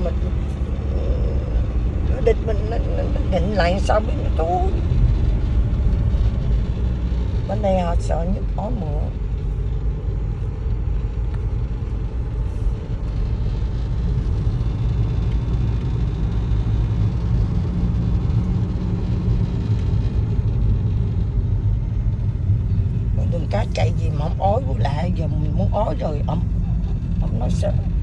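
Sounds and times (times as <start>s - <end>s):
car interior road noise: 0.0s - 28.0s.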